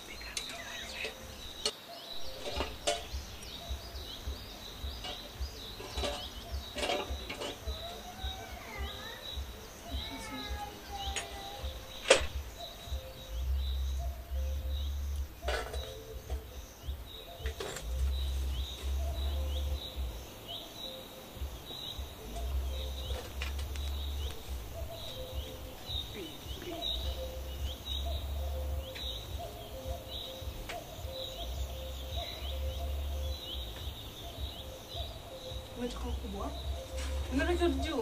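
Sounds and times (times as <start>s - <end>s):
bird chirping: 0.0s - 38.0s
outdoor background noise: 0.0s - 38.0s.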